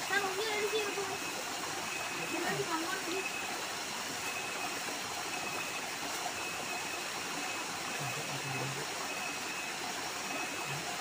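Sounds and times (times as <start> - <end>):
small waterfall splashing: 0.0 - 11.0.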